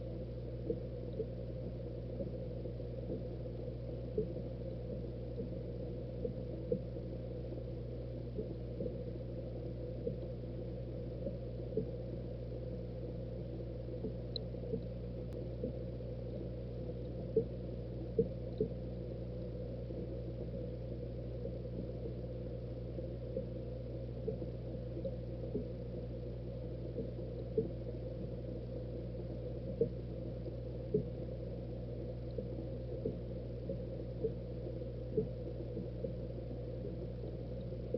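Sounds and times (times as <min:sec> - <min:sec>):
aquarium equipment humming: 0:00.0 - 0:37.9.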